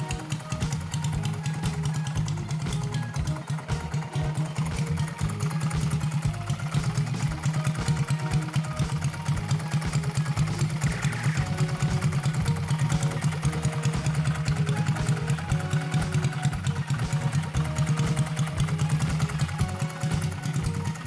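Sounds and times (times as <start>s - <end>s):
light background music: 0.0s - 21.0s
motorcycle engine idling: 0.0s - 21.0s.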